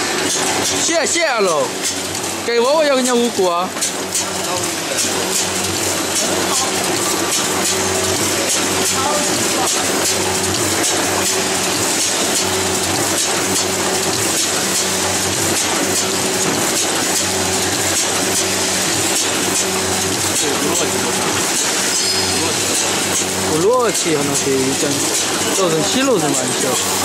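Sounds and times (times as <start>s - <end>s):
machine clicks and clatter: 0.0s - 27.0s
packing machine humming: 0.0s - 27.0s.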